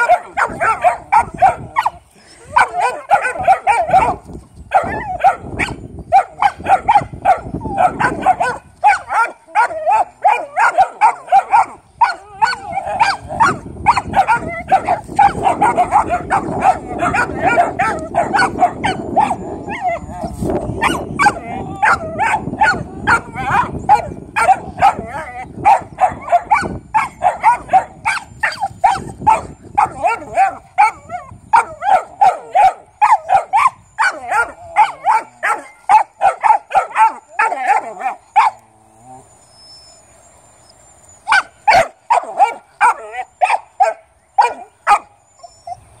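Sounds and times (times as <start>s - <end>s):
dog barking rapidly: 0.0s - 1.9s, 2.6s - 19.4s, 20.8s - 38.6s, 41.3s - 45.1s.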